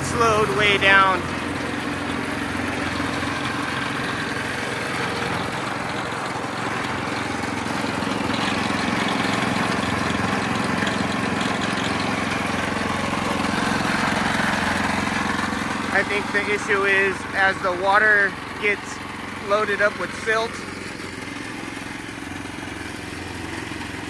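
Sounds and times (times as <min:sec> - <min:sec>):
machine and water noise: 0:00.0 - 0:24.0
small engine running: 0:00.0 - 0:24.0.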